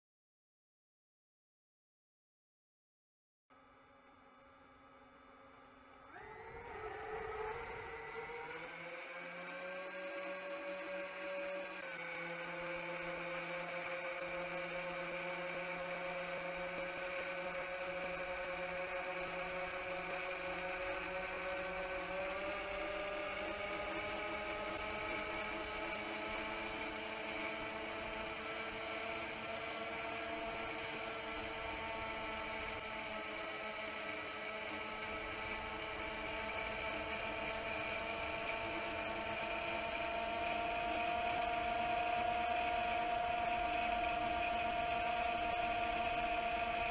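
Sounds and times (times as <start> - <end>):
drone motors whining: 3.6 - 46.9.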